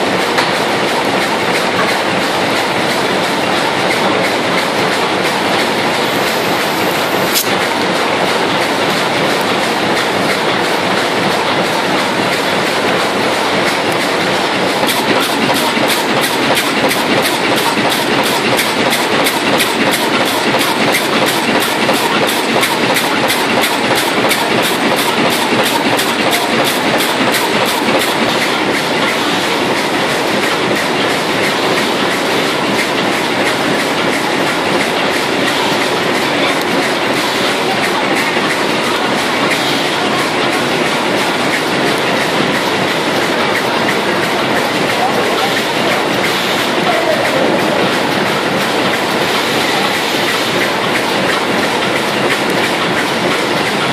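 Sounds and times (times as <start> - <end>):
machine loud mechanical clatter: 0.0 - 53.9
rapid regular clicking: 0.2 - 53.9.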